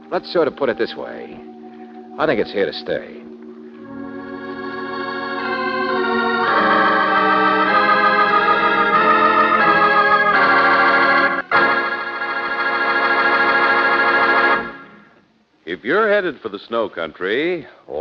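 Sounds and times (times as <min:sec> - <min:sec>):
organ chords: 0:00.0 - 0:16.2.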